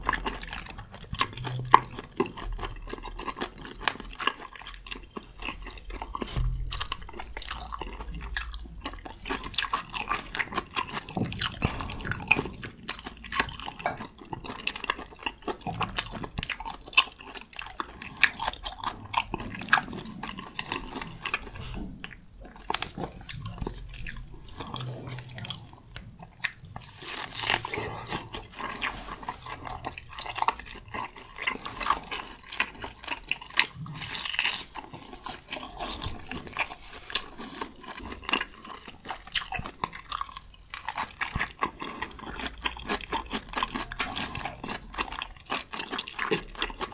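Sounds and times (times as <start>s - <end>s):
wet chewing and mouth smacking: 0.0s - 46.9s.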